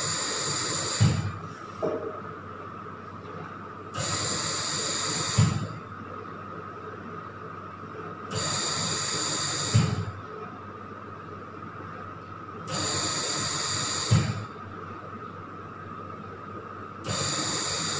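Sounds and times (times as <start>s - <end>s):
faint steady whine: 0.0s - 3.2s, 3.8s - 17.9s.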